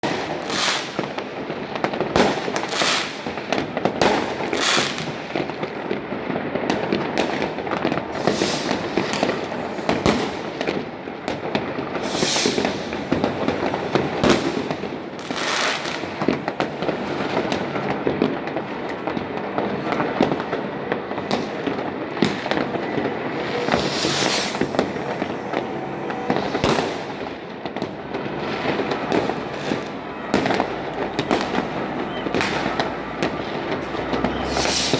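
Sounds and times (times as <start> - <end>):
fireworks crackling and banging: 0.0 - 34.9.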